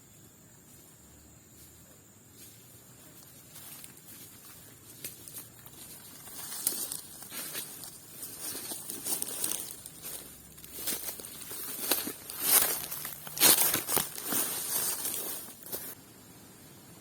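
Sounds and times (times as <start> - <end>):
dry leaves and twigs rustling: 2.3 - 16.0.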